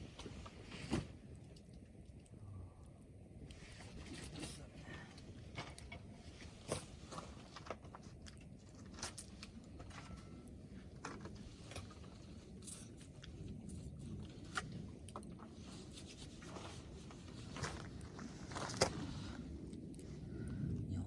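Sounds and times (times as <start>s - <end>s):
campfire crackling and popping: 0.0s - 20.6s.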